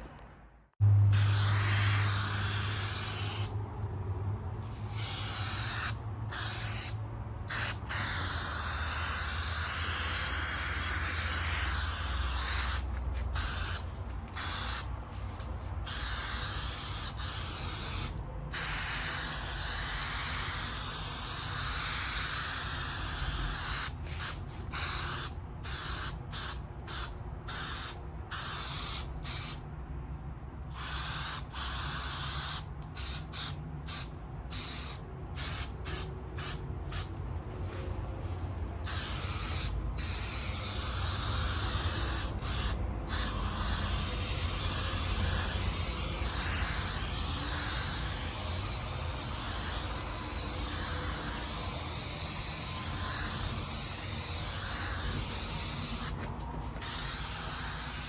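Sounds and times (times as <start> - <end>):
aerosol can hissing: 1.2 - 3.5, 4.6 - 13.8, 14.4 - 14.9, 15.9 - 29.6, 30.7 - 37.1, 38.9 - 56.2, 56.8 - 58.0.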